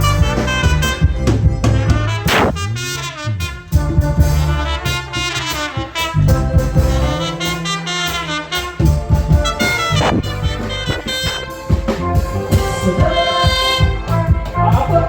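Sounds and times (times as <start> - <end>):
bass notes: 0.0 - 15.0
steady drum beat: 0.0 - 15.0.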